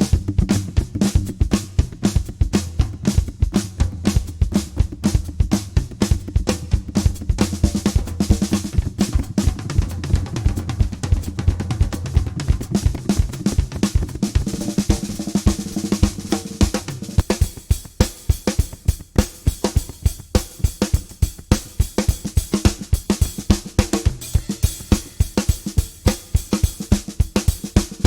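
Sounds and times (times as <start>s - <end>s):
drum kit playing fast rhythm: 0.0s - 28.0s.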